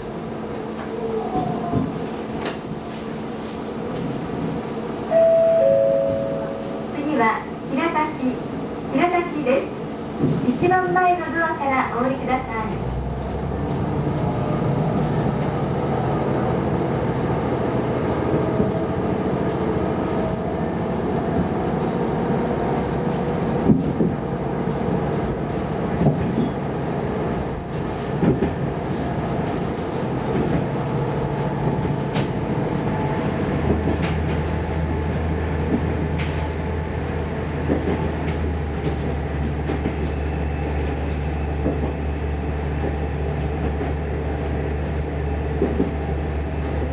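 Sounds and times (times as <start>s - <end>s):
railcar engine drone: 0.0s - 46.9s.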